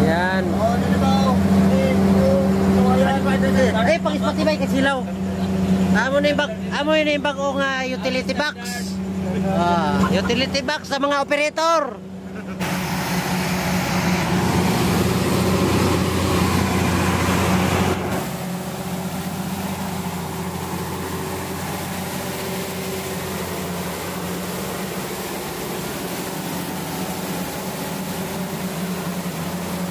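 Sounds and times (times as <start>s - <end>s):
diesel generator droning: 0.0s - 29.9s.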